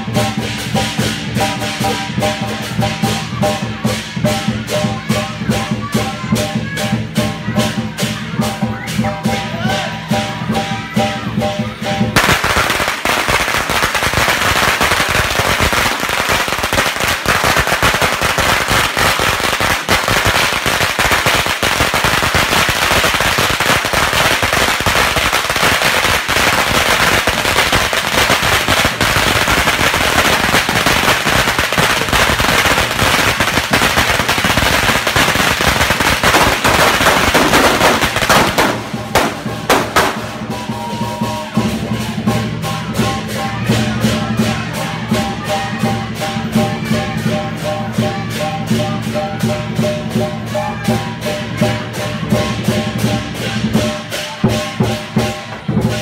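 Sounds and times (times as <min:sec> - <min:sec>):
firecrackers crackling: 0:00.0 - 0:56.0.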